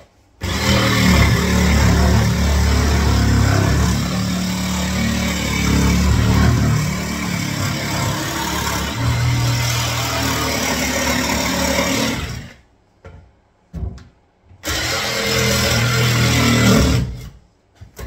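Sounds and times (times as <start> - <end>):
jigsaw cutting worktop: 0.4 - 12.6, 14.6 - 17.2.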